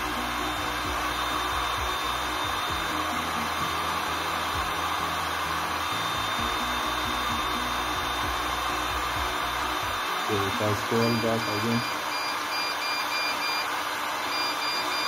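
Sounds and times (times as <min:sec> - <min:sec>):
heat gun blower rushing air: 0:00.0 - 0:15.0.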